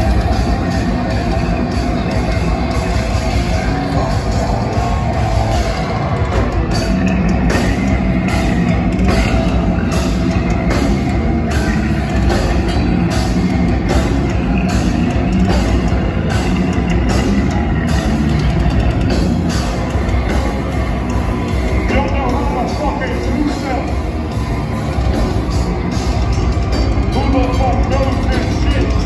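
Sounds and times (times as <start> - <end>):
distorted guitars: 0.0 - 29.0.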